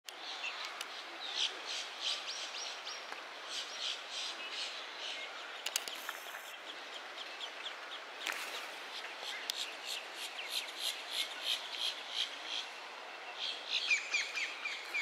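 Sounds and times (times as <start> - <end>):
steady background hiss: 0.1 - 15.0.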